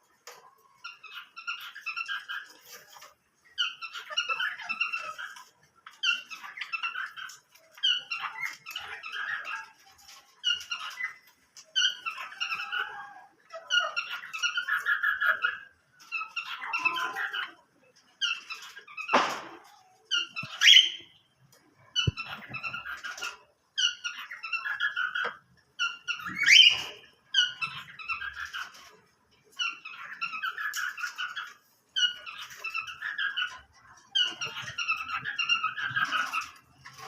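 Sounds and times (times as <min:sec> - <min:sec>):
cage birds chirping and twittering: 0:00.0 - 0:37.0.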